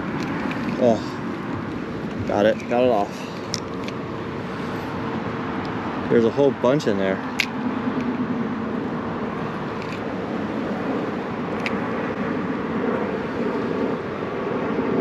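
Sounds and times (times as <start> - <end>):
distant motor traffic: 0.0 - 15.0.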